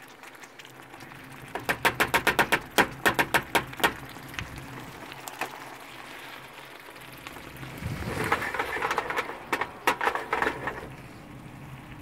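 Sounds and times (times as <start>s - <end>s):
sauce bubbling and sizzling in pan: 0.0s - 12.0s.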